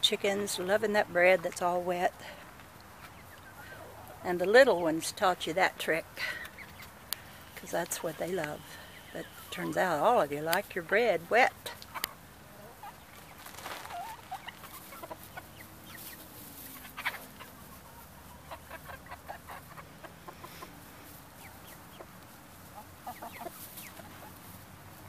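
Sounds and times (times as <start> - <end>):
hens clucking softly: 0.0 - 25.0.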